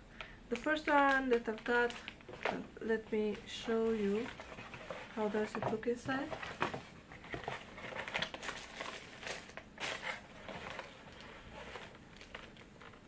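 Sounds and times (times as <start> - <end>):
paper and plastic crinkling: 0.5 - 13.0.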